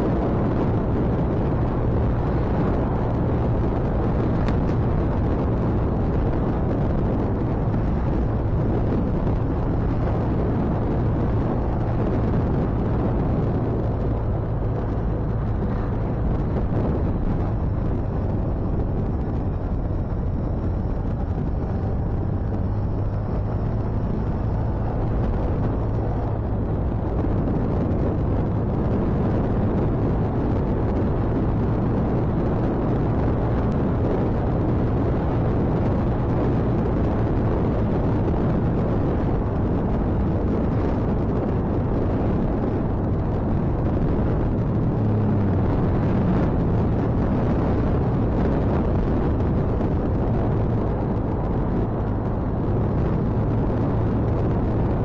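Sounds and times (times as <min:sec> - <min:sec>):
motorcycle engine low hum: 0:00.0 - 0:55.0
wind rush over microphone: 0:00.0 - 0:55.0.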